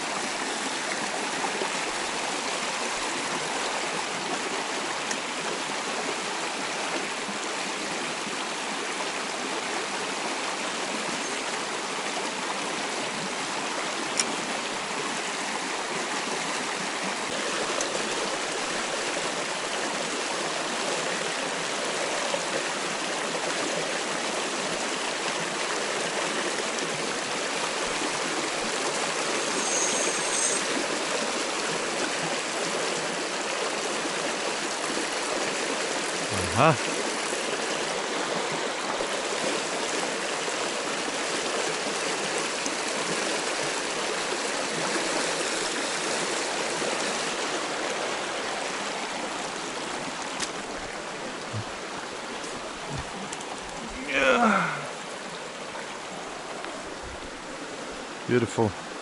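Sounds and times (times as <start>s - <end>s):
creek water babbling over rocks: 0.0s - 59.0s.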